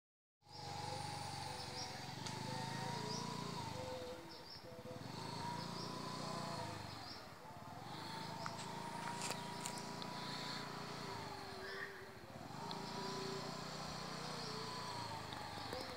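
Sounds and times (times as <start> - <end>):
scooter whine: 0.4 - 15.9.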